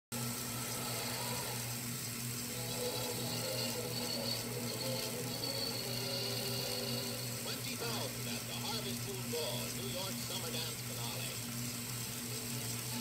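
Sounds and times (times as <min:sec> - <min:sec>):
film soundtrack hum and hiss: 0:00.1 - 0:13.0
faint music: 0:00.2 - 0:13.0.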